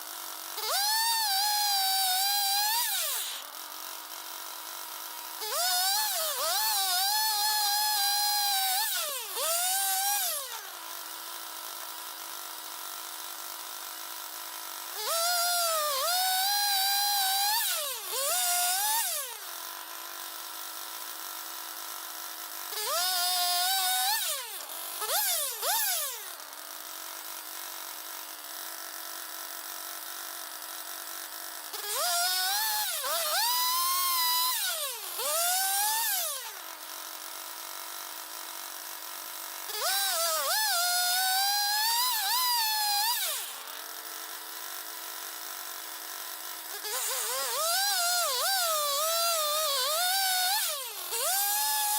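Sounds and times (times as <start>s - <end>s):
sawmill engine idling and revving: 0.0s - 51.9s.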